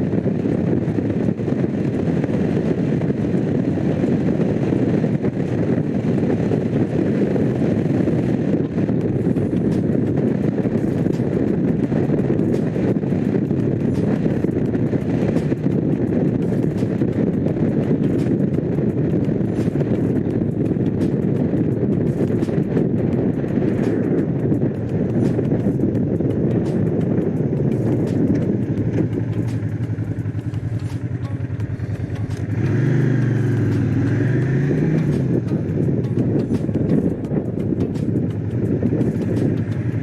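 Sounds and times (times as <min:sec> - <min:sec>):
motorcycle engine running: 0:00.0 - 0:40.0
wind rush on microphone: 0:00.0 - 0:40.0.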